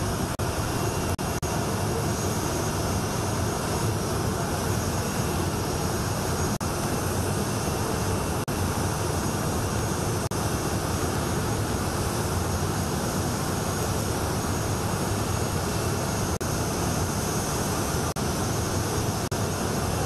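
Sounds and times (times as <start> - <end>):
high whine: 0.0 - 20.0
jet engines roaring: 0.0 - 20.0.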